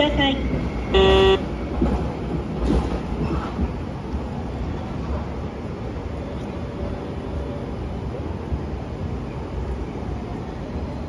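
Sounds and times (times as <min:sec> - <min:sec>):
tram rumbling along street track: 0:00.0 - 0:11.0.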